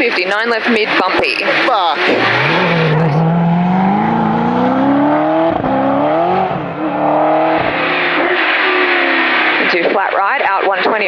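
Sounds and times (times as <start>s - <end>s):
rally car engine accelerating: 0.0s - 10.0s.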